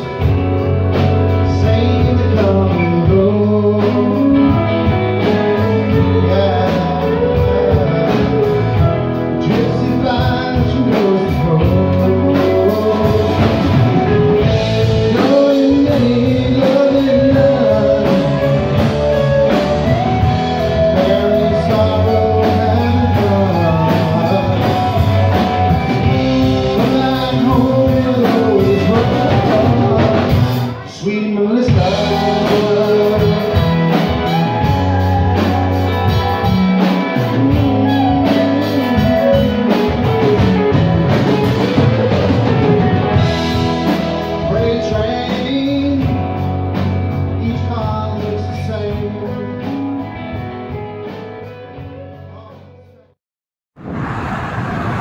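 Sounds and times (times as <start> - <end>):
rock music with electric guitar: 0.0 - 52.8
person singing: 1.3 - 46.4.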